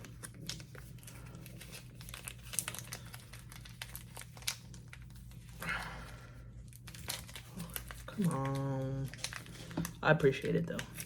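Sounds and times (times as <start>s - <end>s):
packaging crinkling and tearing: 0.0s - 5.8s, 6.4s - 11.0s.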